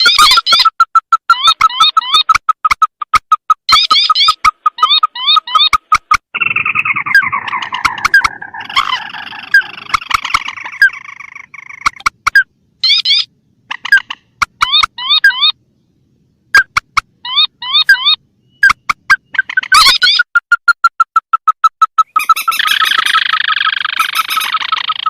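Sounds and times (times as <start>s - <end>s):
chorus of bird calls: 0.0s - 2.4s, 3.4s - 20.3s, 21.9s - 25.0s.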